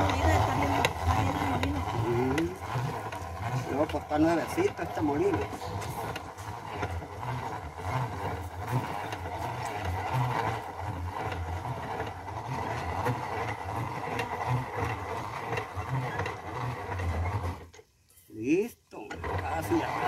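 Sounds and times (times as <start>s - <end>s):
hand-cranked corn mill grinding: 0.0s - 20.0s.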